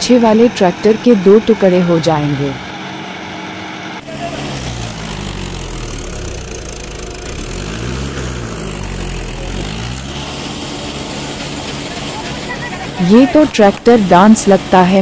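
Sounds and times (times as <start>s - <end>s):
tractor diesel engine straining: 0.0s - 15.0s.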